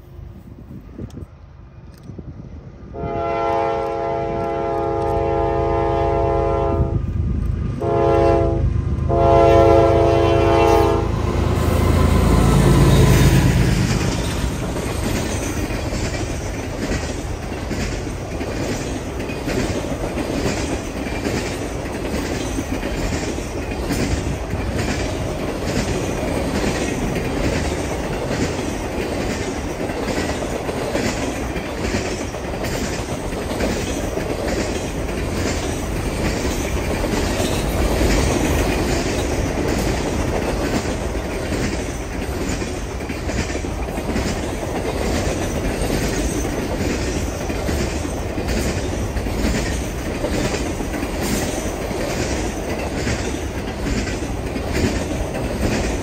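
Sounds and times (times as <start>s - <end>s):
train wheels rumbling on rail: 0.0s - 56.0s
clickety-clack over rail joints: 0.8s - 6.0s, 8.9s - 56.0s.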